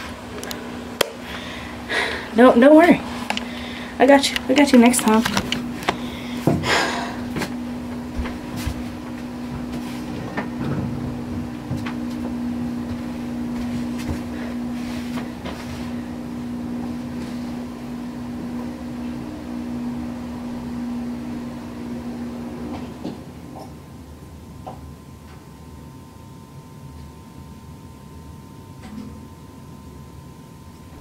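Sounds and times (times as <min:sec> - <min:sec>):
low motor hum: 0:00.0 - 0:31.0.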